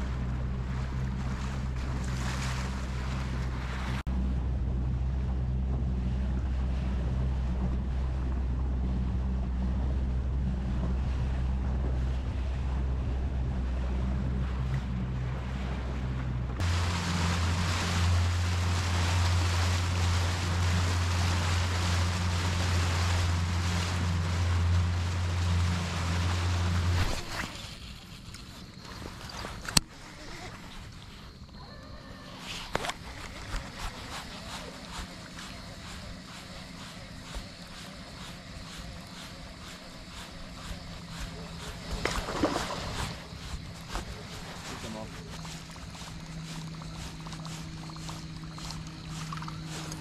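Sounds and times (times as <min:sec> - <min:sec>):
outboard motor running: 0:00.0 - 0:27.8, 0:28.7 - 0:50.0
water wash: 0:00.0 - 0:31.4, 0:32.2 - 0:50.0.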